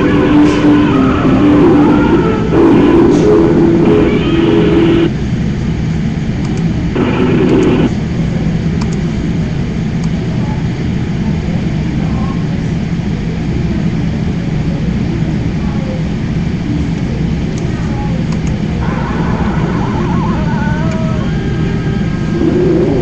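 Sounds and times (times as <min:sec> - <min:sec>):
low rumbling hum: 0:00.0 - 0:23.0.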